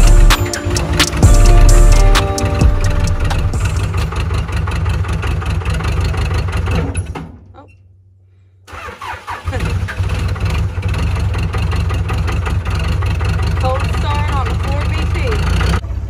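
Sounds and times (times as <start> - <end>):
engine restarting and revving: 0.0 - 7.4, 8.6 - 16.0
diesel engine running: 0.0 - 7.8, 8.6 - 16.0.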